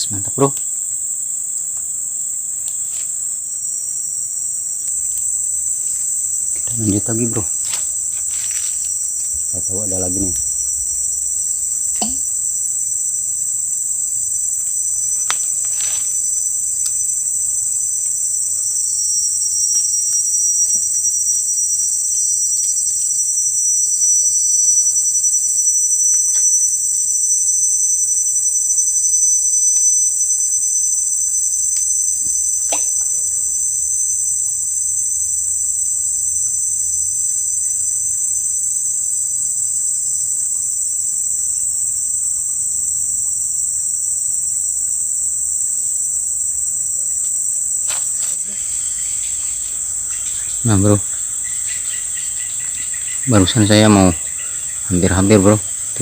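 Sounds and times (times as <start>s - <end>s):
insect chorus shrilling: 0.0s - 56.0s.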